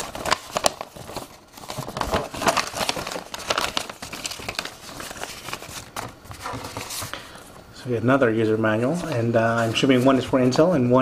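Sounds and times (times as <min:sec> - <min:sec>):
paper rustling and crinkling: 0:00.0 - 0:07.4, 0:08.9 - 0:10.7.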